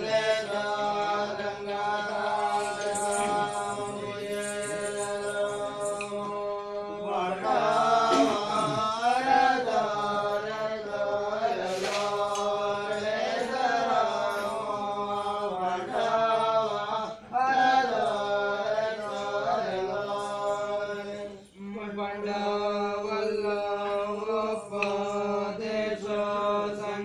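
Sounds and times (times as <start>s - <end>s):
group of voices chanting: 0.0s - 23.2s.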